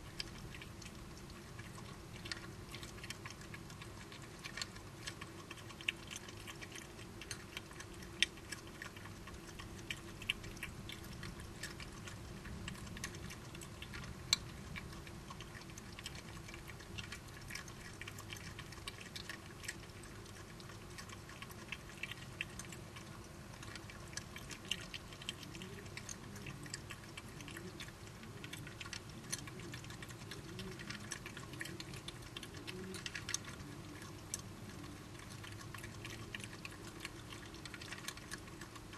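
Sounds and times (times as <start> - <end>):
animals chewing and snuffling: 0.0 - 38.9
faint low hum: 0.0 - 38.9.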